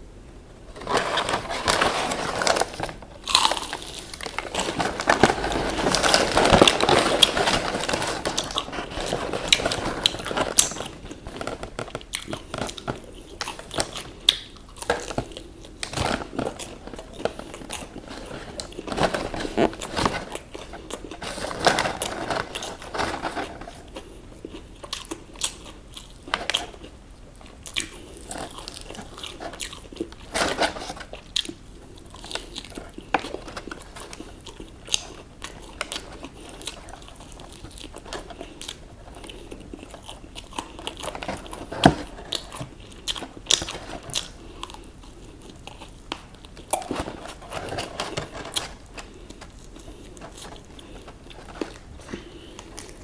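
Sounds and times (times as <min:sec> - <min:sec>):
crunchy fried chicken chewing: 0:02.2 - 0:53.0.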